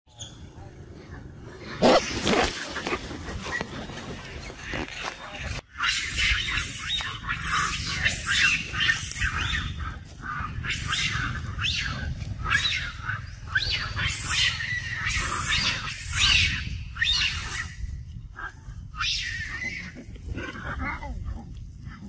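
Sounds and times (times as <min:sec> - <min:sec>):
monkeys squeaking and chirping: 0:00.1 - 0:00.5, 0:01.5 - 0:21.0
steady low rumble: 0:00.4 - 0:22.0.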